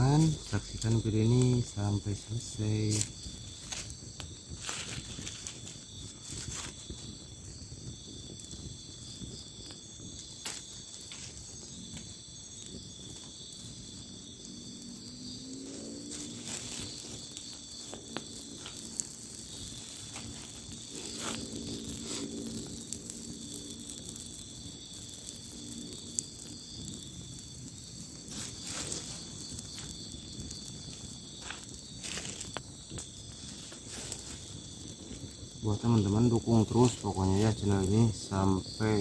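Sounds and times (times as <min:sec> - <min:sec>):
crickets and insects trilling: 0:00.0 - 0:39.0.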